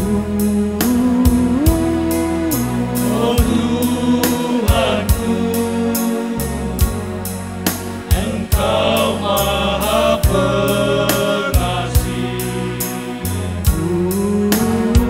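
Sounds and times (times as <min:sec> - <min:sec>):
backing track drum beat: 0:00.0 - 0:15.0
men singing gospel song: 0:00.8 - 0:07.4, 0:08.0 - 0:15.0.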